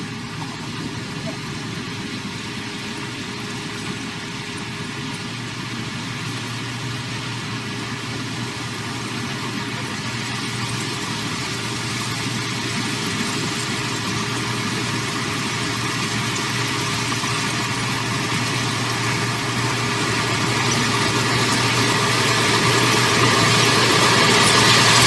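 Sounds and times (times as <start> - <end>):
heavy machine diesel engine running: 0.0 - 25.0.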